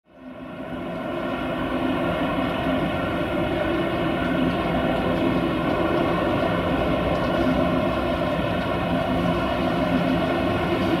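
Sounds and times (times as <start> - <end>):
jet engines rumbling and whining: 0.1 - 11.0.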